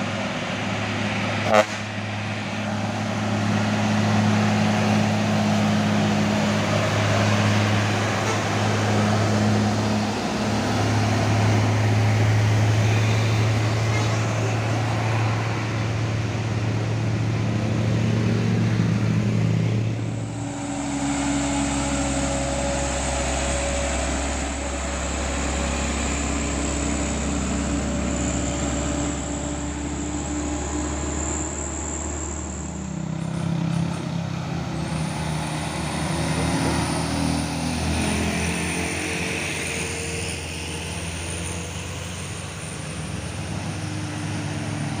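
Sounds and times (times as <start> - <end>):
diesel trucks labouring uphill: 0.0 - 45.0.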